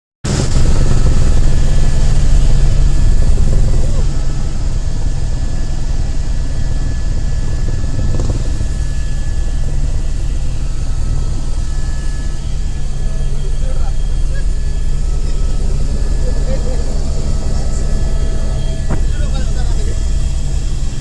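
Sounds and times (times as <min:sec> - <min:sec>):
helicopter rotor drone: 0:00.3 - 0:21.0
faint voices: 0:02.4 - 0:21.0.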